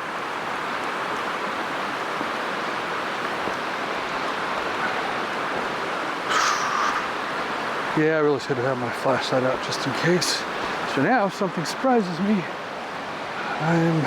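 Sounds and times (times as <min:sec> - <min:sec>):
mountain creek rushing: 0:00.0 - 0:14.0.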